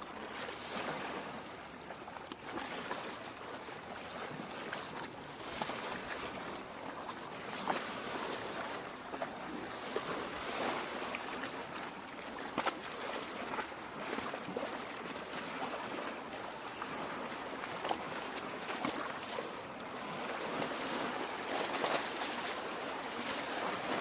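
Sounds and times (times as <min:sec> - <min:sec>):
lake water lapping at shore: 0:00.0 - 0:24.0.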